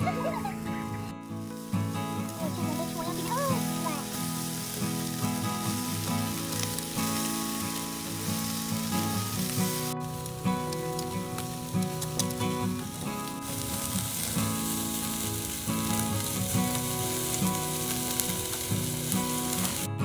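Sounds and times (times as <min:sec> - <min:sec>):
meat sizzling on a grill: 0:00.0 - 0:20.0
soft background music: 0:00.0 - 0:20.0.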